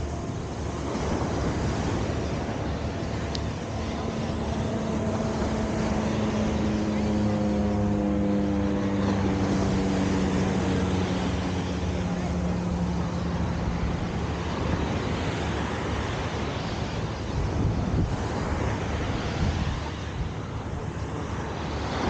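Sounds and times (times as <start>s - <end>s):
passing engine drone: 0.0s - 22.0s
surf: 0.0s - 22.0s
wind noise on microphone: 0.0s - 22.0s.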